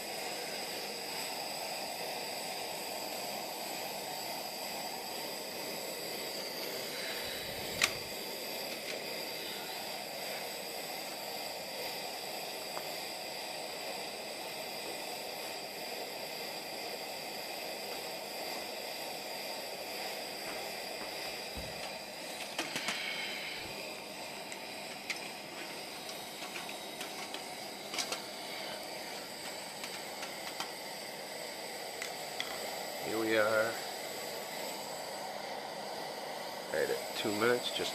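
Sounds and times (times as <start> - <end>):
stove burner hissing: 0.0 - 37.9.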